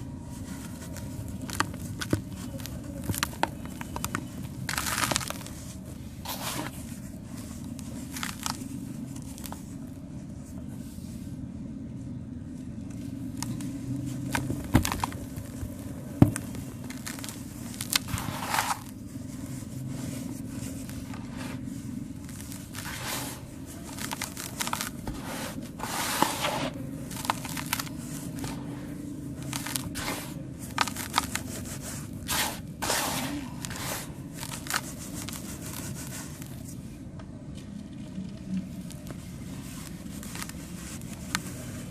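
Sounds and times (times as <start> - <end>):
dried cement crushing and crumbling: 0.0 - 10.8, 12.6 - 41.9.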